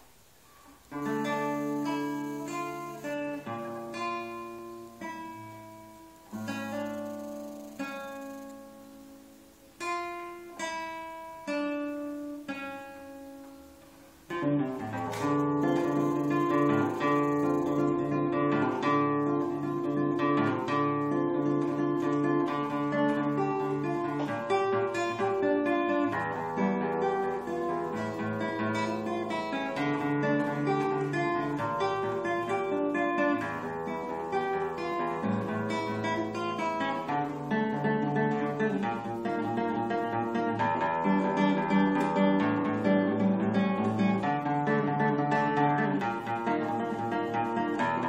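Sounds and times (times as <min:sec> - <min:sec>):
guitar chords and picked notes: 0:00.0 - 0:48.0.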